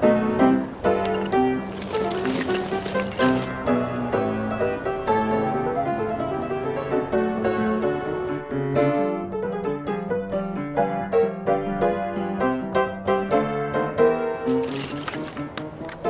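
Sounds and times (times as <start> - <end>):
bouncy piano music: 0.0 - 16.0.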